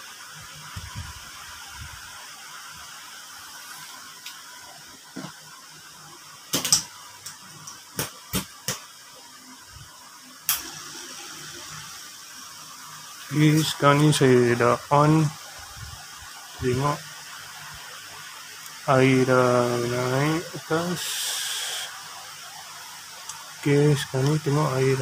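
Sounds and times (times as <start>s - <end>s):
aquarium filter hissing: 0.0s - 25.0s.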